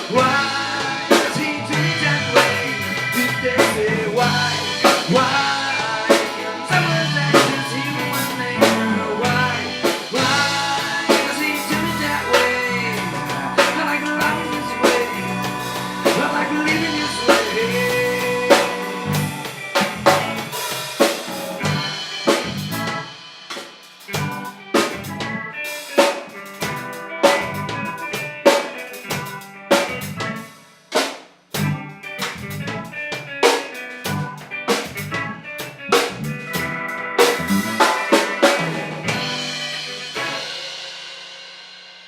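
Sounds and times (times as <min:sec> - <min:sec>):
drum kit solo: 0:00.0 - 0:42.0.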